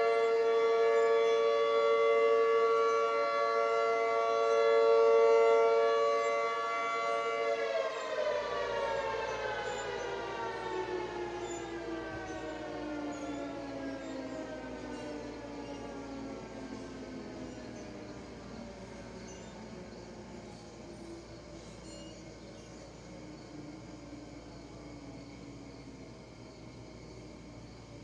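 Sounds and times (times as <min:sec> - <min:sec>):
mechanical warning sirens winding down: 0:00.0 - 0:28.0.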